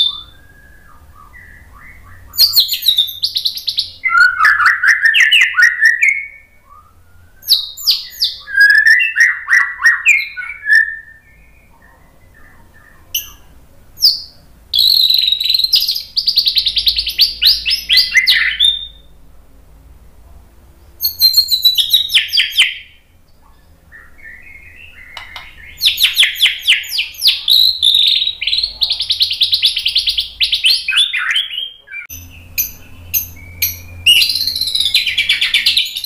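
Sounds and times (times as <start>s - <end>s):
bird singing whistles and trills: 0.0s - 19.1s, 20.8s - 36.0s.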